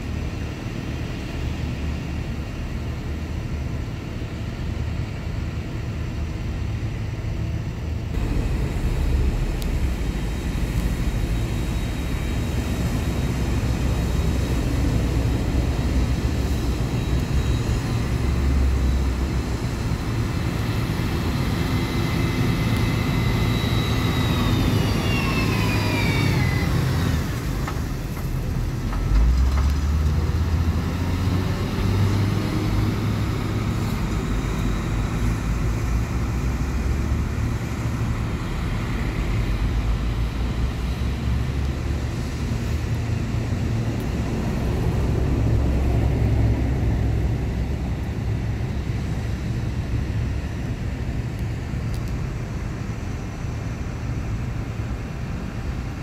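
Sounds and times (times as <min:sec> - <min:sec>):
diesel machinery engine rumble: 0:00.0 - 0:56.0.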